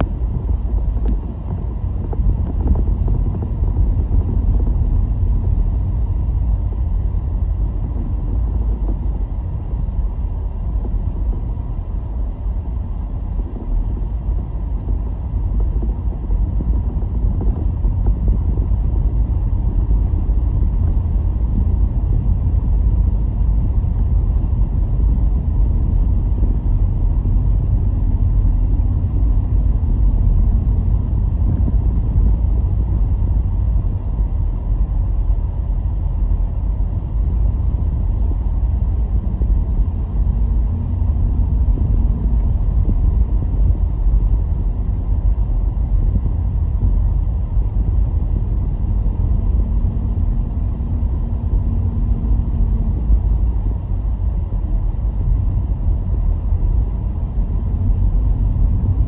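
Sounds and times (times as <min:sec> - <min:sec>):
car tyres and engine rumble: 0:00.0 - 0:59.0
faint engine hum: 0:00.0 - 0:59.0.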